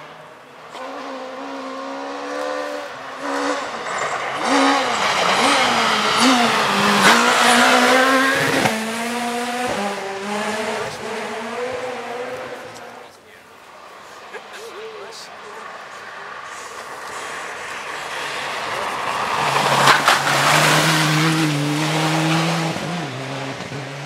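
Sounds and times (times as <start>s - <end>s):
rally car engine passing: 0.0s - 24.0s.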